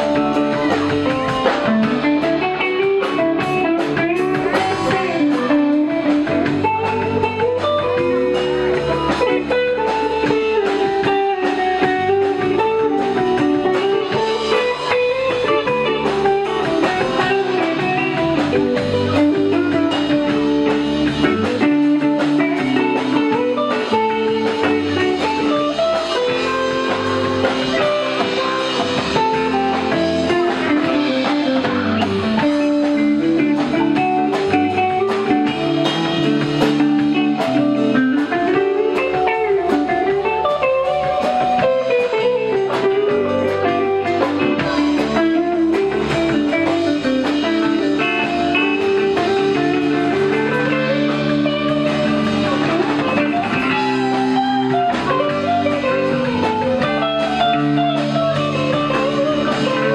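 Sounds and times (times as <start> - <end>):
bass guitar: 0.0 - 59.9
drums: 0.0 - 59.9
electric guitars: 0.0 - 59.9
keyboard: 0.0 - 59.9.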